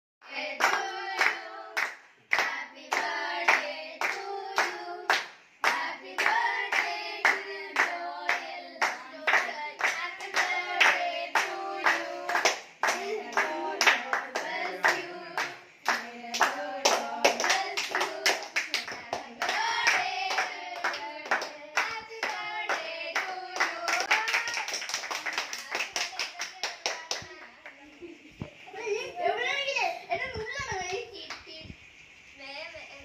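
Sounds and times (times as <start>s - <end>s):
group singing a celebration song: 0.2s - 27.3s
rhythmic hand-clapping: 0.2s - 27.8s.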